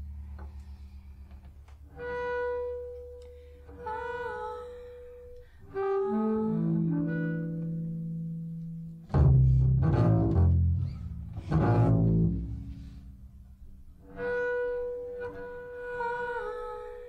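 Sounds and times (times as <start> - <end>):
bowed double bass: 0.0 - 17.0.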